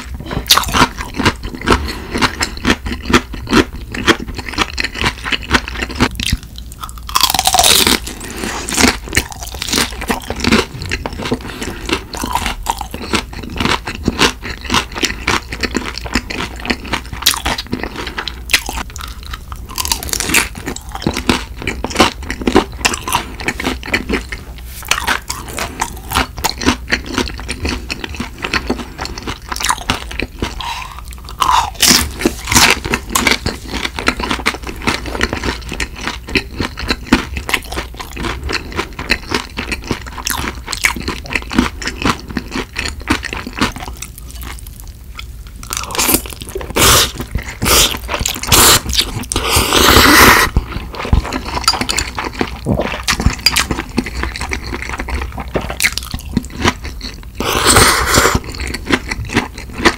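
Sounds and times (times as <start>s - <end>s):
chewing and crunching food: 0.0s - 59.9s.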